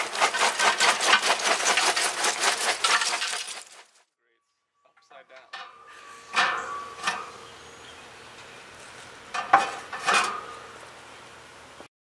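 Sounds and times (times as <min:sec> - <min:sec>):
metal grill grates clanking: 0:00.0 - 0:03.8, 0:05.4 - 0:11.8.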